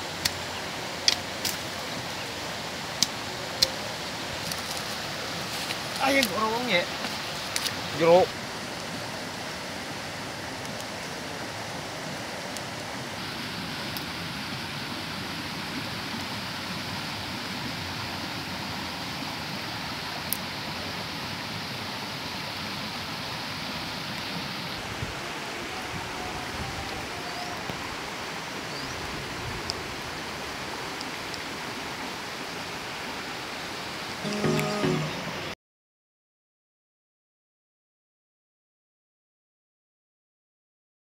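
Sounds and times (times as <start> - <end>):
river rushing over rocks: 0.0 - 35.6.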